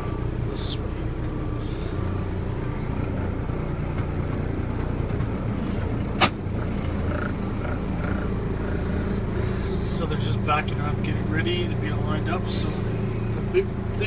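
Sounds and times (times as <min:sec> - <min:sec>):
heavy vehicle engine droning: 0:00.0 - 0:14.0.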